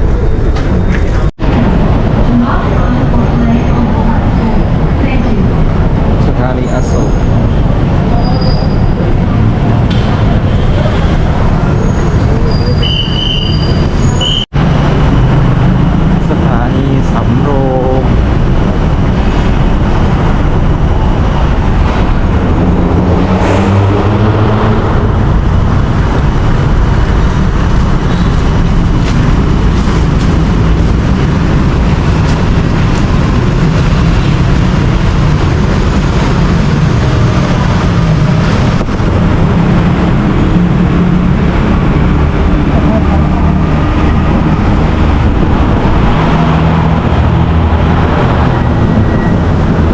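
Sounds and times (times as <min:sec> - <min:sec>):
low rumble of moving vehicle: 0:00.0 - 0:49.9.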